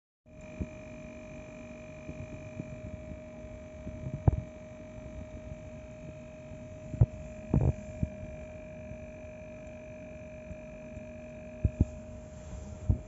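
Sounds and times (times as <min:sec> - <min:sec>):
mechanical hum: 0:00.3 - 0:13.0.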